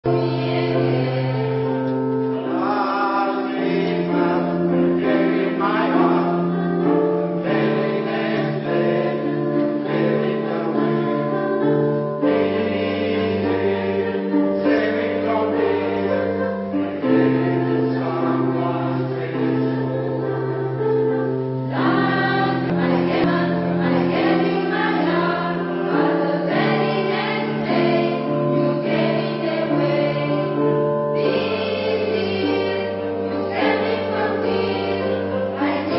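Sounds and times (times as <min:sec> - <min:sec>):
choir singing sustained chords: 0:00.0 - 0:35.9.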